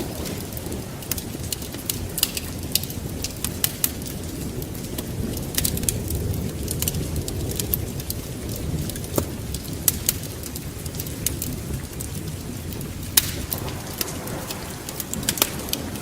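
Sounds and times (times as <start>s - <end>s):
rain: 0.0s - 16.0s
wind: 0.0s - 16.0s
wood fire crackling: 0.0s - 16.0s.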